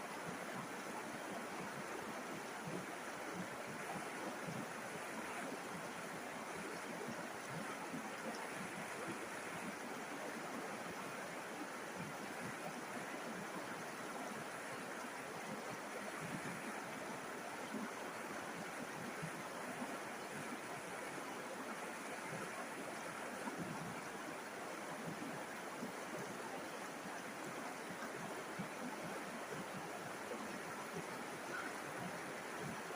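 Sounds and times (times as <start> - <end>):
river water rushing over stones: 0.0 - 32.9.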